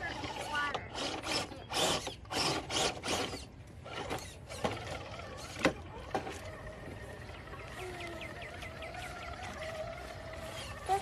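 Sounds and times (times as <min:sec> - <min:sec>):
electric motor whirring: 0:00.0 - 0:11.0.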